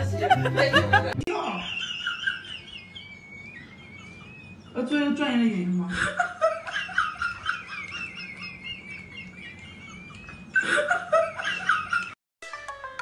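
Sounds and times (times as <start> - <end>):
woman laughing: 0.0 - 4.5, 5.7 - 12.2.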